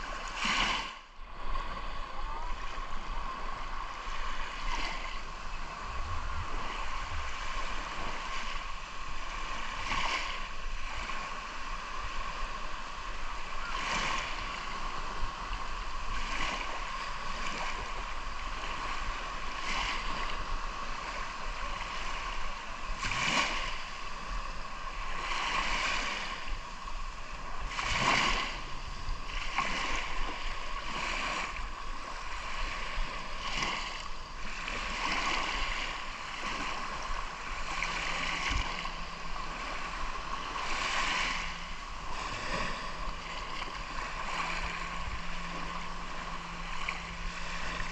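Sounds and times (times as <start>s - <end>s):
hiss of moving water: 0.0s - 47.9s
small waves breaking: 0.0s - 47.9s.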